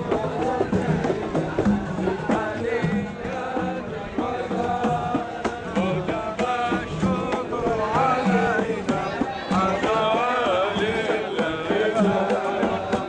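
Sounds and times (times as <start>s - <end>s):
devotional chanting: 0.0s - 13.0s
drum beats: 0.0s - 13.0s.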